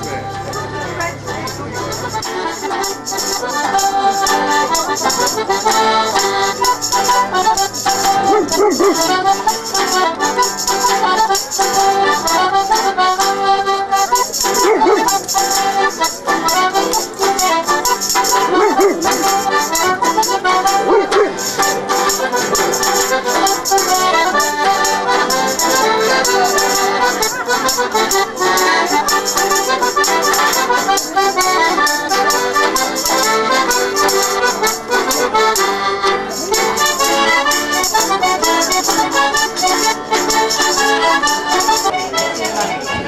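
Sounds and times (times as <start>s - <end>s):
hand percussion rattling: 0.0s - 13.4s, 14.0s - 43.0s
accordion: 0.0s - 43.0s
banjo: 0.0s - 43.0s.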